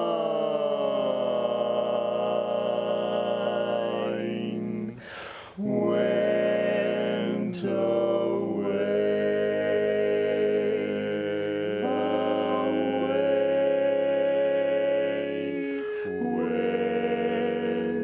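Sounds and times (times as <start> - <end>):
male quartet singing in harmony: 0.0 - 18.0.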